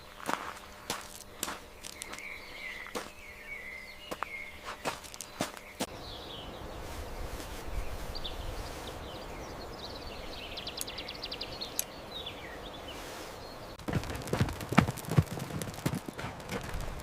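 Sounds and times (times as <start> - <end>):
bird chirps: 0.0 - 16.4.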